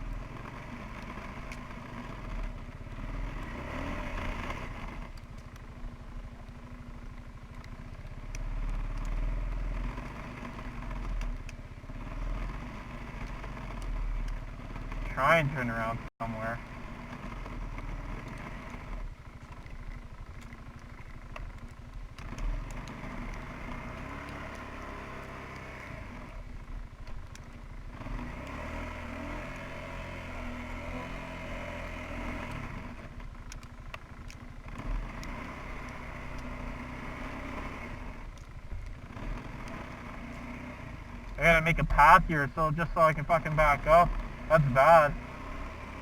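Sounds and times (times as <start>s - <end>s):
atv engine revving: 0.0s - 5.6s, 7.5s - 46.0s.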